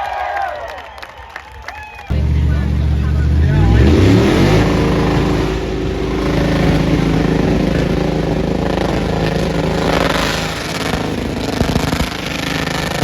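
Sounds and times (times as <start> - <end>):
truck engine running: 2.1 - 13.0.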